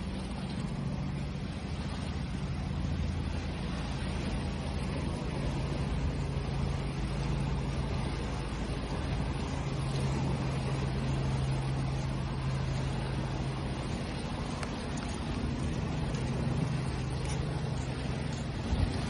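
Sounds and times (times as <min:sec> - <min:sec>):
constant low hum: 0:00.0 - 0:19.0
ocean waves washing in: 0:00.0 - 0:19.0.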